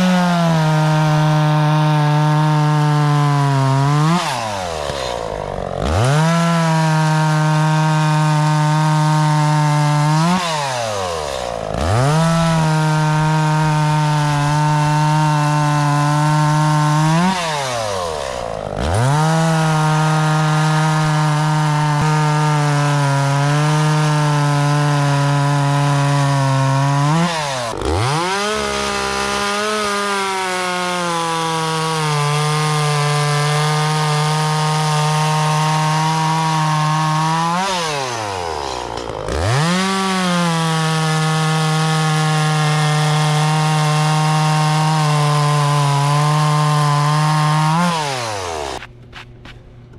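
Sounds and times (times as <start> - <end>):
chainsaw cutting wood: 0.0 - 49.5.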